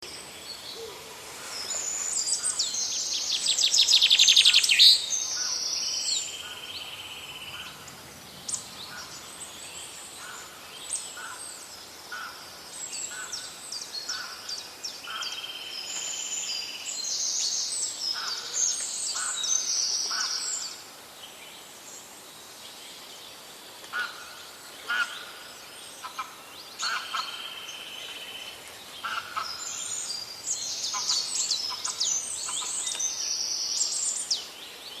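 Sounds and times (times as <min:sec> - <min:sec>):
songbirds singing: 0:00.0 - 0:35.0.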